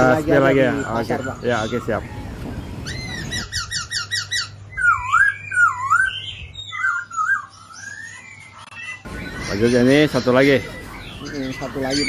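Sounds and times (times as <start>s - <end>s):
songbird singing whistled song: 0.6s - 12.0s.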